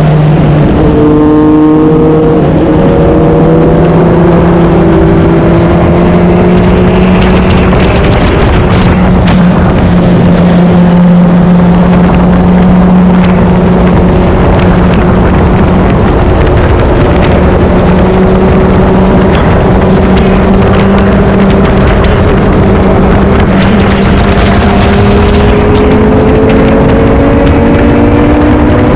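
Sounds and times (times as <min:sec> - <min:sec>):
motorcycle engine cruising: 0:00.0 - 0:28.9
wind and road noise: 0:00.0 - 0:28.9.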